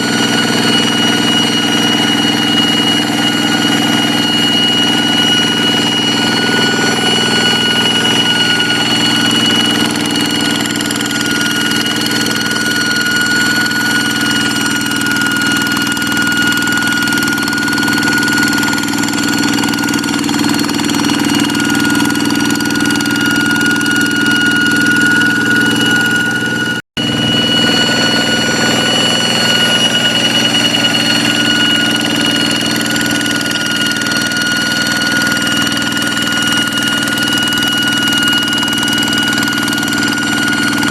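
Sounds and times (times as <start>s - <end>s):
diesel engine running: 0.0s - 40.9s
high-pitched whine: 0.0s - 40.9s.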